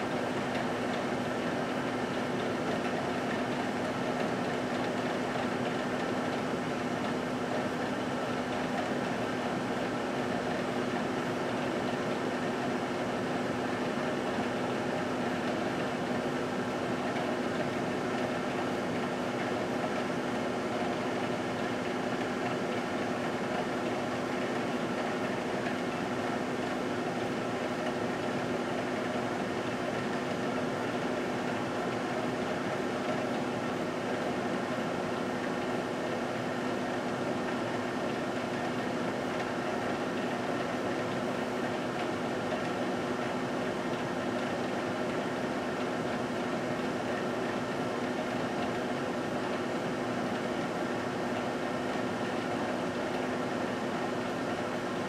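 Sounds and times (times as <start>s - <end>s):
microwave oven humming: 0.0s - 55.0s.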